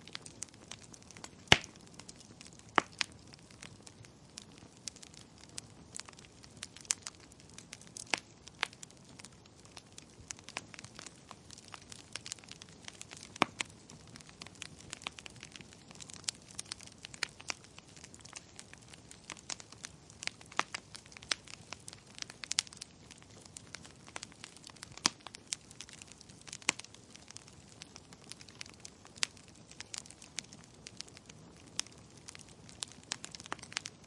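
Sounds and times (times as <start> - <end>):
burning logs crackling and popping: 0.0 - 34.0.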